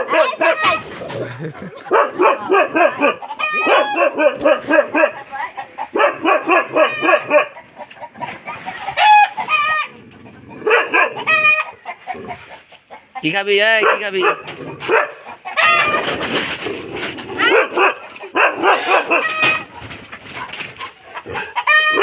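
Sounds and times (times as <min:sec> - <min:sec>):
drawn-out animal calls: 0:02.5 - 0:04.4, 0:05.0 - 0:13.3, 0:14.3 - 0:22.0.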